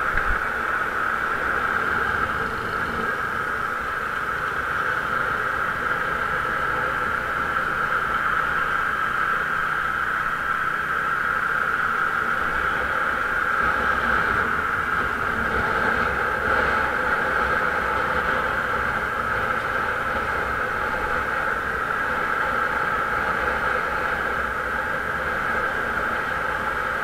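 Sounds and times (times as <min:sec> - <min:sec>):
faint motorbike engine: 0:00.0 - 0:27.0
wind and road noise: 0:00.0 - 0:27.0.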